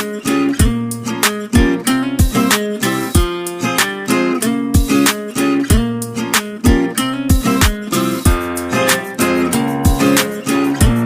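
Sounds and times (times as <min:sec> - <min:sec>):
music with pitched notes over a beat: 0:00.0 - 0:11.0.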